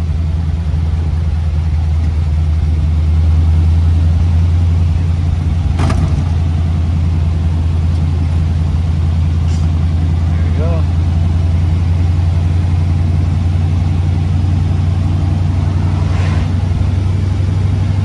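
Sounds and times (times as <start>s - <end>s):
car engine drone: 0.0s - 18.0s
road and wind noise: 0.0s - 18.0s.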